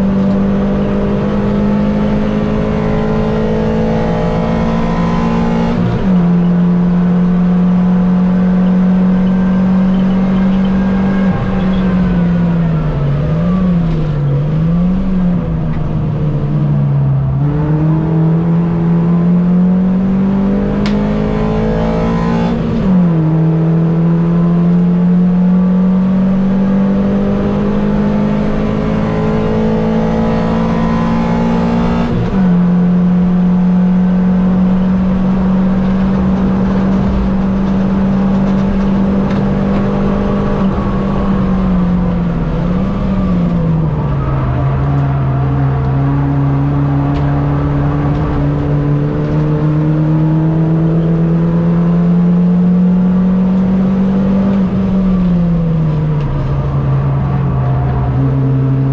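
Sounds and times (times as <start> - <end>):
other car engines: 0.0 - 58.9
race car engine running hard: 0.0 - 58.9.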